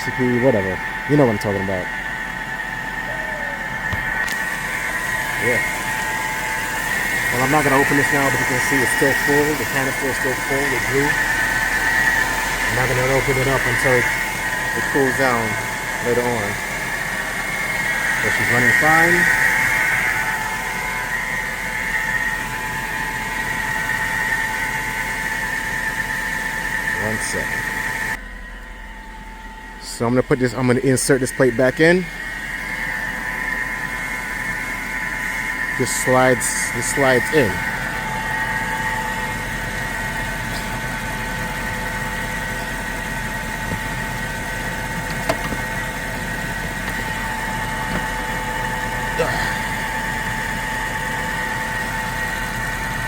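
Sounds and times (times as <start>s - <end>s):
car engine idling: 0.0s - 53.0s
high whine: 0.0s - 53.0s.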